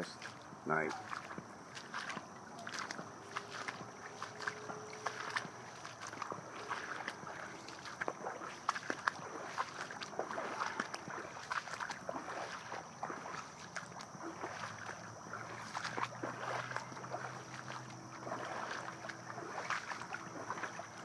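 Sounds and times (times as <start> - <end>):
water dripping and ticking: 0.0 - 21.0
water washing: 0.0 - 21.0.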